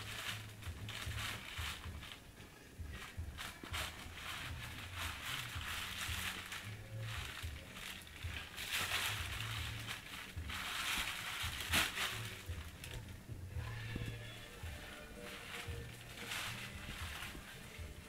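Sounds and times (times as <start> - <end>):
plastic bag rustling and crinkling: 0.0 - 18.0.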